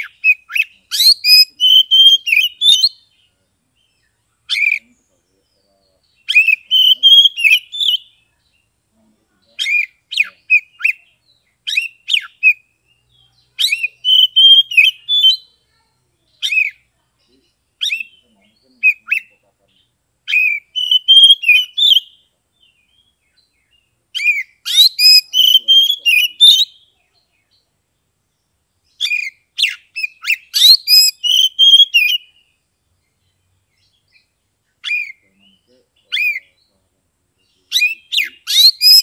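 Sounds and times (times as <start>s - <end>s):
bird singing whistled notes: 0.0s - 8.8s, 9.5s - 39.0s.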